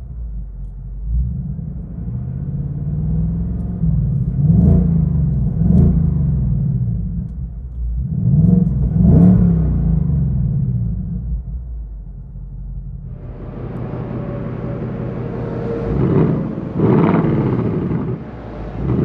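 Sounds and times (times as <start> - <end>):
car engine idling: 0.0 - 19.0
engine throttle blips: 0.0 - 19.0.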